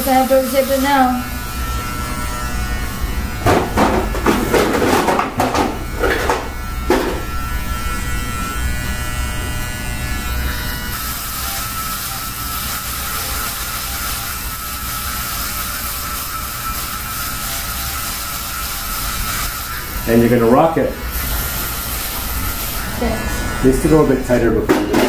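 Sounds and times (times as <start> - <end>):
electric shaver humming: 0.0 - 25.0.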